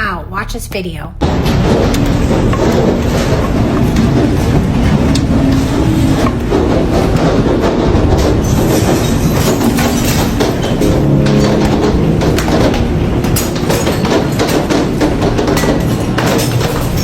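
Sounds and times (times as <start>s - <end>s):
hail rattling on hard surfaces: 1.3s - 17.0s.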